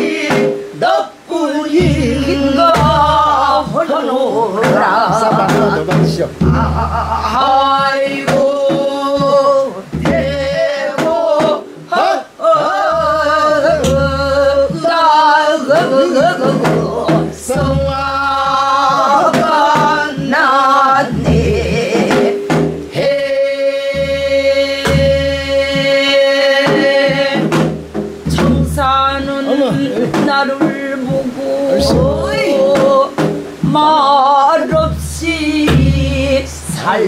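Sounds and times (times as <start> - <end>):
stick strikes on a drum: 0.0 - 1.0, 1.7 - 3.8, 4.6 - 37.0
women singing: 0.0 - 37.0.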